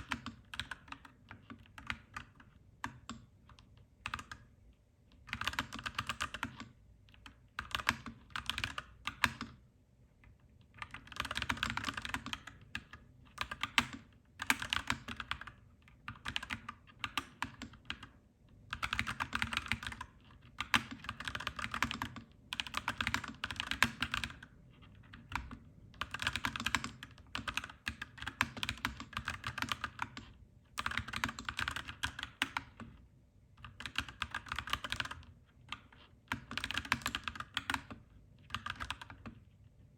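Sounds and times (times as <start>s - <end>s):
mechanical keyboard typing: 0.0s - 4.5s, 5.2s - 9.6s, 10.8s - 33.0s, 33.6s - 39.5s.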